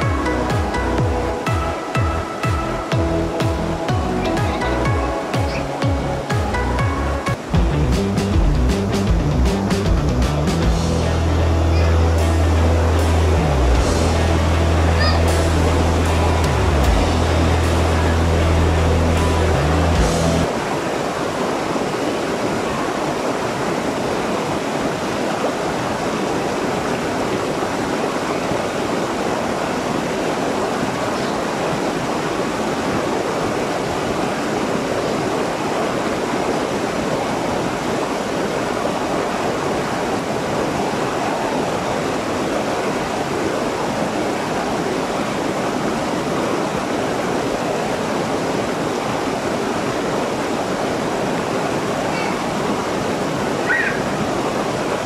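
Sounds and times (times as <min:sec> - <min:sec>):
waterfall over rocks: 0:00.0 - 0:08.3, 0:09.7 - 0:55.0.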